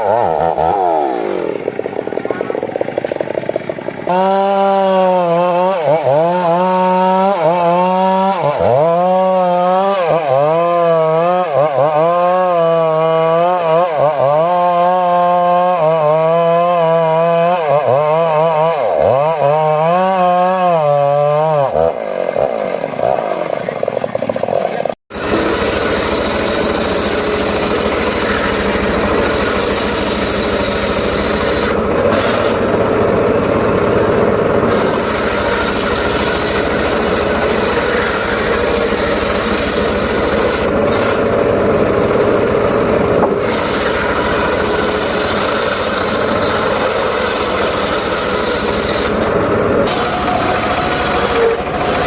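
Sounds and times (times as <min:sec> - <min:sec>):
chainsaw cutting wood: 0:00.0 - 0:52.0.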